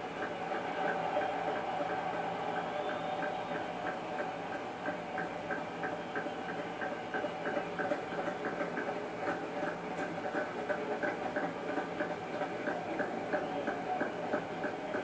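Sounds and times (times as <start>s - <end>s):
stadium crowd cheering and applauding: 0.0s - 15.0s.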